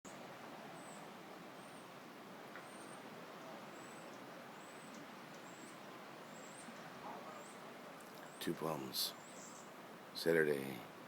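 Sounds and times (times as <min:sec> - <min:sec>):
faint steady hiss: 0:00.1 - 0:11.0
small birds calling: 0:00.1 - 0:11.0.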